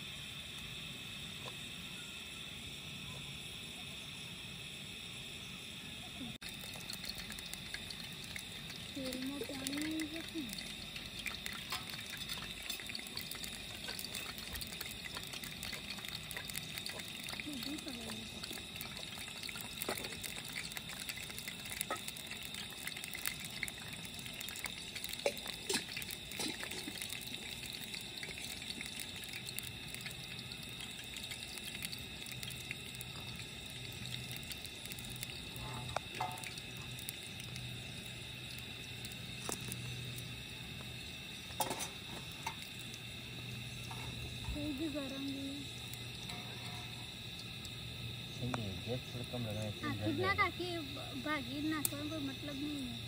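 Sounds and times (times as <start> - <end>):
gas stove hissing: 0.0 - 53.0.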